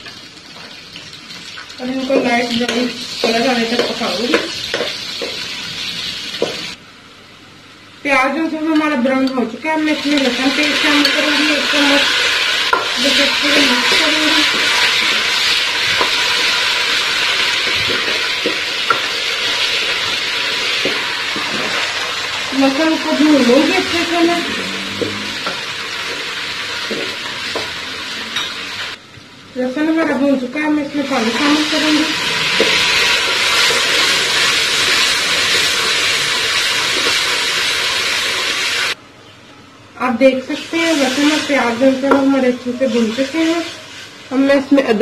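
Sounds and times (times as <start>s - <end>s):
onions sizzling in hot oil: 0.0s - 6.8s, 9.4s - 29.0s, 29.7s - 39.0s, 40.4s - 45.0s.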